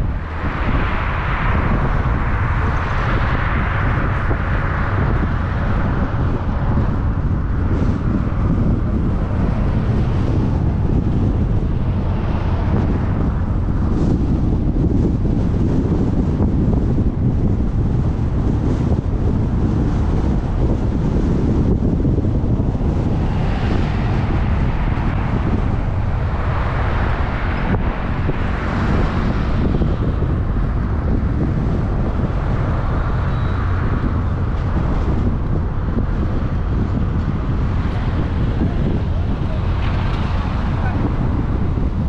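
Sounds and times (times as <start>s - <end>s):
road and traffic noise: 0.0s - 42.0s
vehicles passing: 0.0s - 42.0s
wind buffeting microphone: 0.0s - 42.0s.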